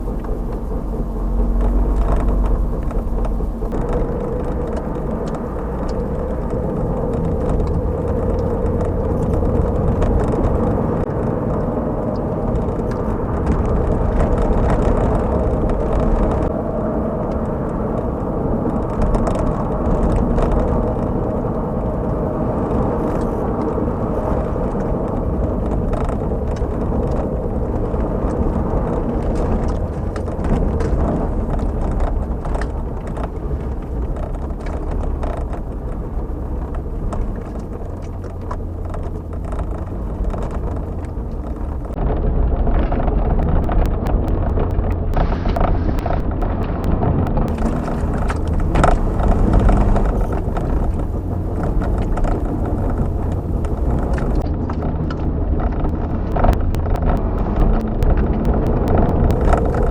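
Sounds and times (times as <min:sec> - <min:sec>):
car engine running: 0:00.0 - 0:59.9
road and tyre noise: 0:00.0 - 0:59.9.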